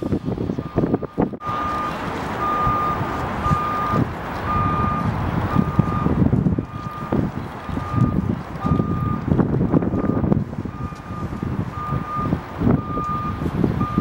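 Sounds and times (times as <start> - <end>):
reversing alarm beeping: 0.0 - 7.2, 7.8 - 9.2, 9.9 - 14.0
low engine and street rumble: 0.0 - 14.0.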